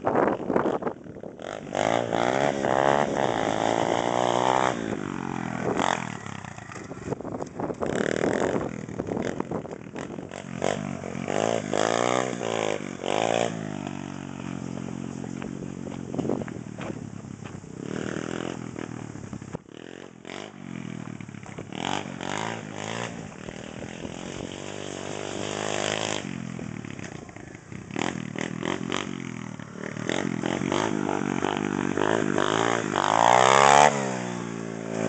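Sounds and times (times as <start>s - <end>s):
pit bike engine revving: 0.1s - 35.0s.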